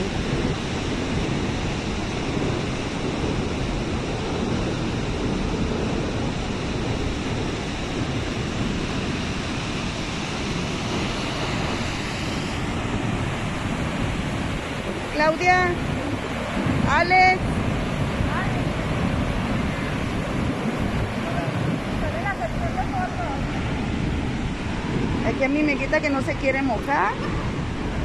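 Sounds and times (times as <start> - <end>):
floodwater rushing roar: 0.0 - 28.0.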